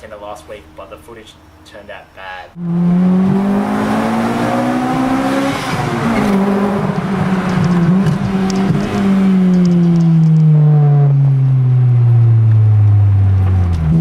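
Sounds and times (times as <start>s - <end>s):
car engine accelerating hard: 2.6s - 14.0s.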